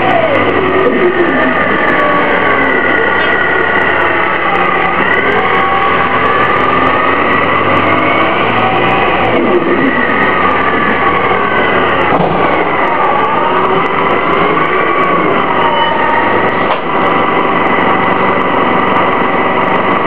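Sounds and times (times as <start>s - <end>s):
bus engine running with whine: 0.0s - 20.0s.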